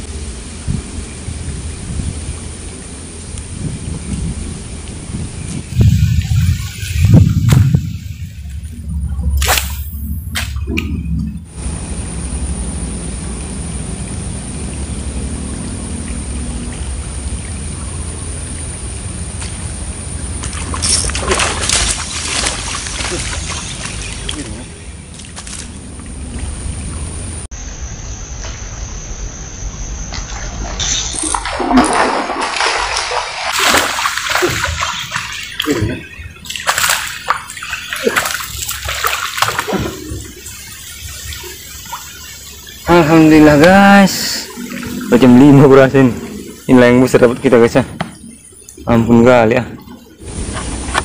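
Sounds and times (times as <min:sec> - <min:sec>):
steady low hum: 0:00.0 - 0:51.0
water splashing: 0:04.8 - 0:11.6, 0:13.2 - 0:27.7, 0:30.1 - 0:51.0.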